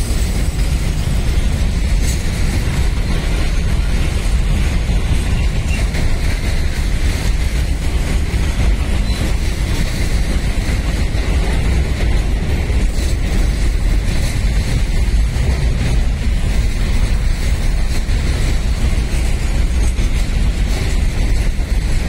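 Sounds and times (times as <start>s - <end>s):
freight train wheels on rail: 0.0s - 22.0s.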